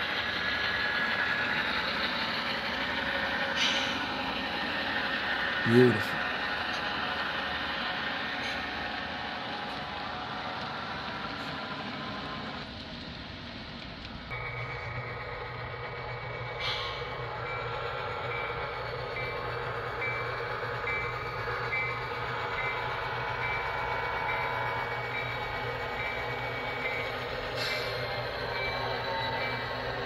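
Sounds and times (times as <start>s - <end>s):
locomotive engine rumble: 0.0s - 30.0s.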